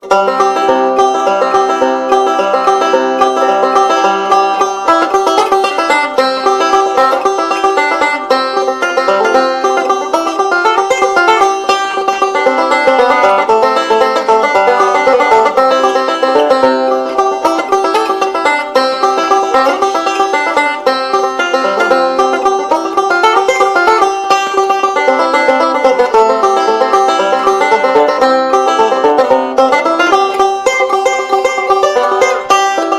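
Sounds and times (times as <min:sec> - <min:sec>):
bluegrass banjo music: 0:00.0 - 0:32.9.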